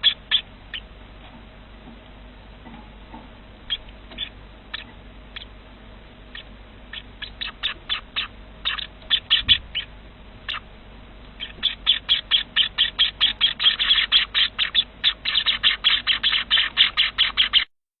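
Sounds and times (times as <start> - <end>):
cage birds chirping: 0.0 - 17.7.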